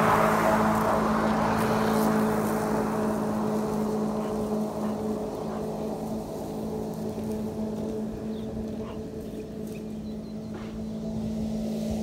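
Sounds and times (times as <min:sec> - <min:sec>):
electric lawn mower cutting grass: 0:00.0 - 0:12.0.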